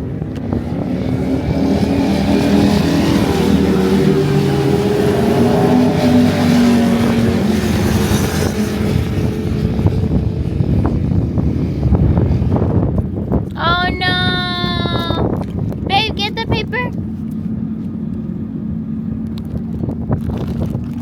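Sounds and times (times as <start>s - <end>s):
motorcycle engines passing: 0.0s - 21.0s.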